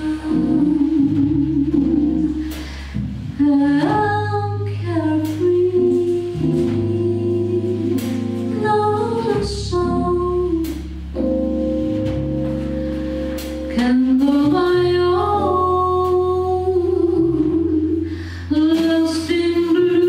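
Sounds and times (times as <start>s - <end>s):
woman singing: 0.0s - 2.6s, 3.3s - 10.9s, 13.6s - 20.0s
double bass: 0.0s - 20.0s
drums: 0.0s - 20.0s
piano: 0.0s - 20.0s.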